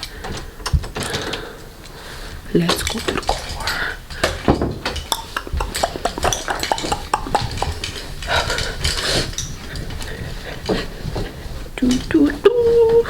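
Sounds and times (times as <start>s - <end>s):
small clicks and clinks of hard objects: 0.0s - 12.5s
rustling: 0.0s - 13.0s.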